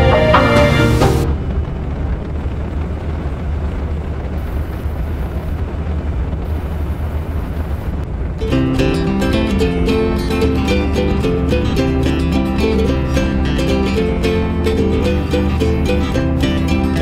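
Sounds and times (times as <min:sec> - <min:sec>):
motorcycle engine rumble: 0:00.0 - 0:17.0
road noise: 0:00.0 - 0:17.0.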